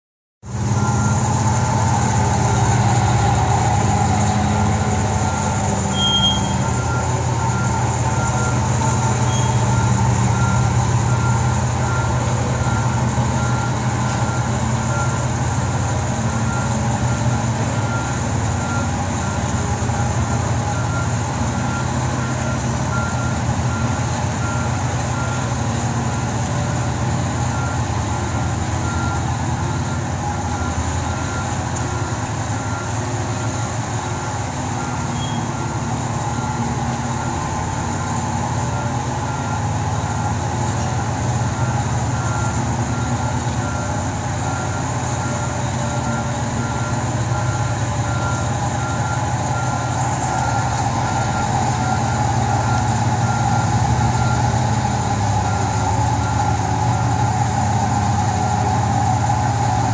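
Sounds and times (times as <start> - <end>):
forklift engine running: 0.4 - 59.9
forklift warning beeper: 0.5 - 59.9.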